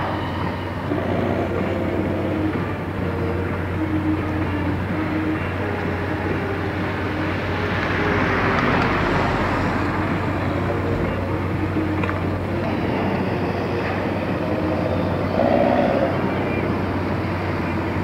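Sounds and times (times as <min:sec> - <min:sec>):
car driving past: 0:00.0 - 0:18.0
constant low hum: 0:00.0 - 0:18.0
outdoor rumble: 0:00.0 - 0:18.0.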